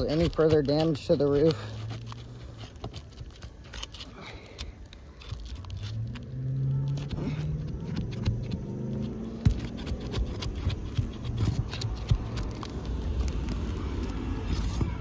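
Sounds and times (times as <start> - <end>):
shingles crackling and scraping: 0.0 - 15.0.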